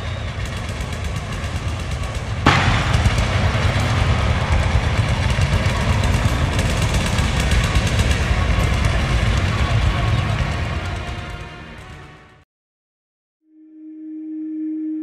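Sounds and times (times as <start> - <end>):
thunder rumbling and cracking: 0.0 - 12.1.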